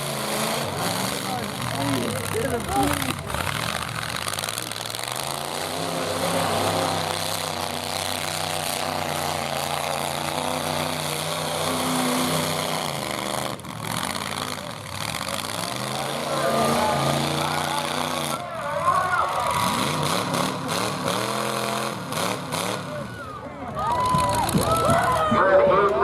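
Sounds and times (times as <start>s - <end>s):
truck engines running: 0.0s - 26.0s.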